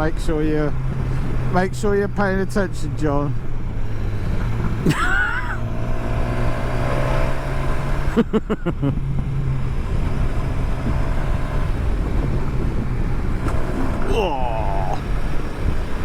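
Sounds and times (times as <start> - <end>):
motorcycle engine running: 0.0 - 16.0
riding wind rushing: 0.0 - 16.0.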